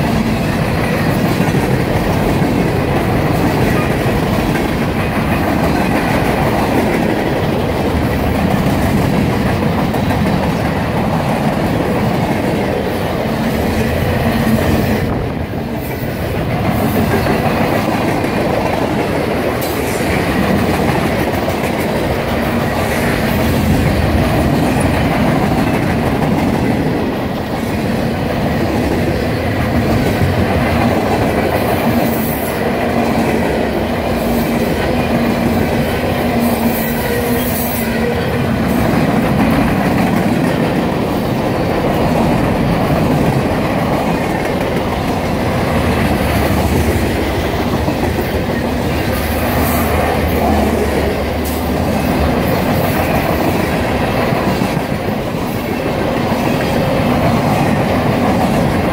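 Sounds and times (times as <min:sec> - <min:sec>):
freight train wheels clacking: 0:00.0 - 0:58.9.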